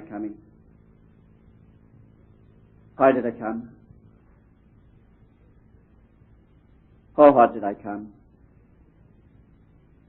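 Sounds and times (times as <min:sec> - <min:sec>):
faint recording hiss and hum: 0:00.0 - 0:10.0.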